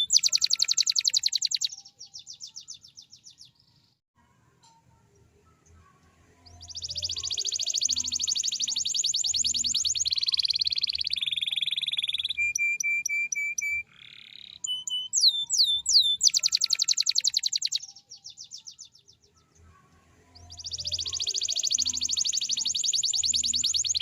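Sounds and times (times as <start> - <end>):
canary singing trills: 0.0 - 3.8, 5.2 - 24.0.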